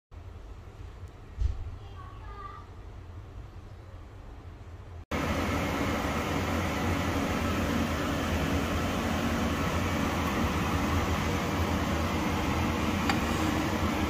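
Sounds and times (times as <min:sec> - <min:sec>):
fan whirring hum: 0:00.2 - 0:14.0.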